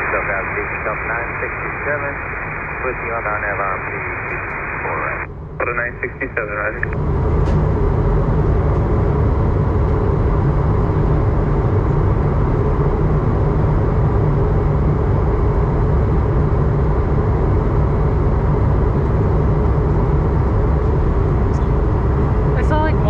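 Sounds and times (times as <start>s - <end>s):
airliner cabin engine rush: 0.0s - 23.0s
faint steady hum: 0.0s - 23.0s.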